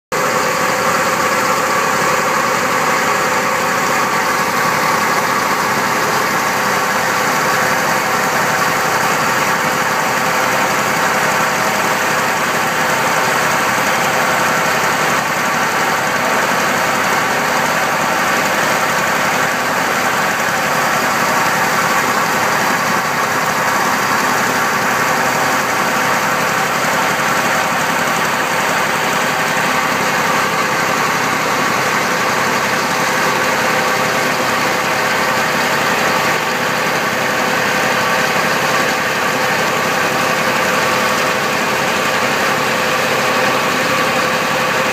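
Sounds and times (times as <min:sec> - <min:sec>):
water pump engine running: 0:00.1 - 0:44.9
water gushing from pipe: 0:00.2 - 0:44.9.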